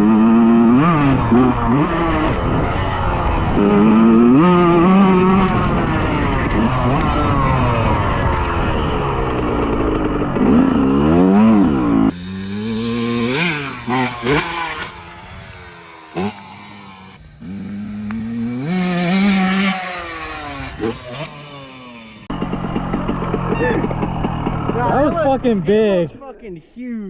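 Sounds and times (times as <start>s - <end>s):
motorbike engine revving: 0.0s - 25.6s.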